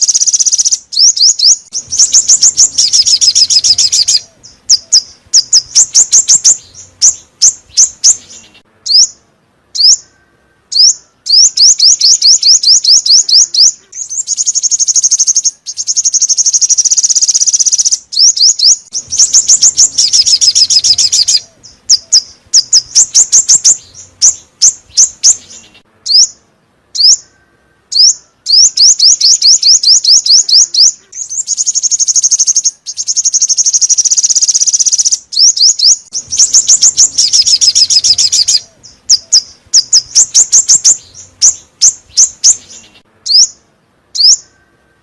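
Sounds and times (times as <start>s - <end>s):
bird chirping rapidly: 0.0s - 45.0s
buzzy bird trill: 0.0s - 45.0s.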